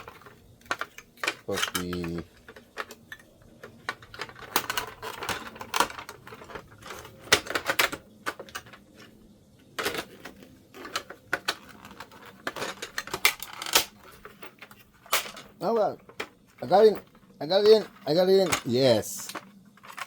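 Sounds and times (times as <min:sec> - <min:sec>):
plastic printer parts clicking: 0:00.0 - 0:20.0.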